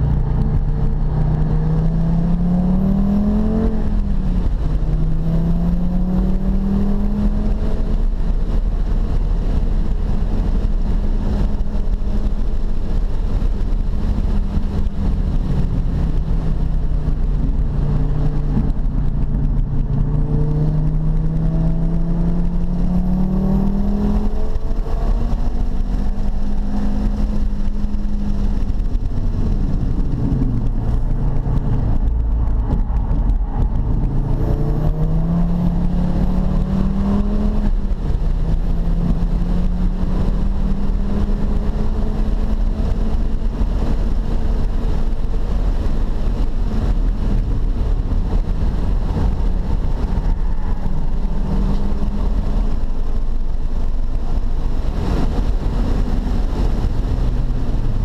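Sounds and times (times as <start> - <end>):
car engine accelerating: 0.0 - 58.0
low road rumble: 0.0 - 58.0.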